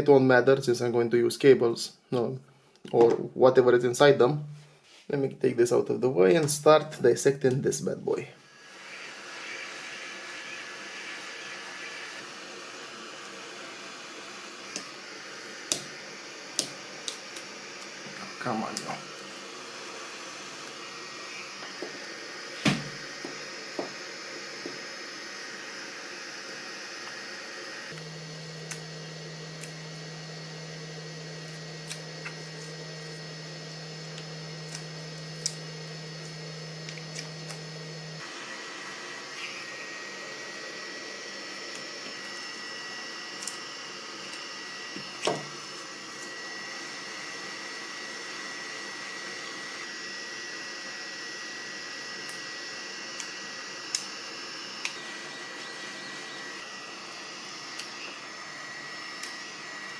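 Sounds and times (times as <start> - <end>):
background hiss and hum: 0.0 - 59.9.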